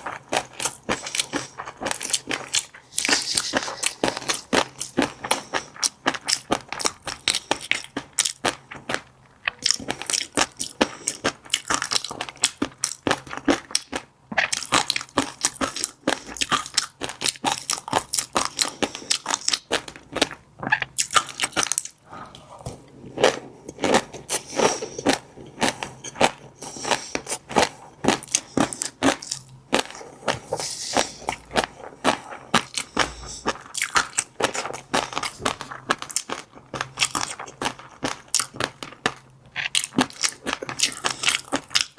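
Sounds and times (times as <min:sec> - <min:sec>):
chewing fish roe: 0:00.0 - 0:41.9.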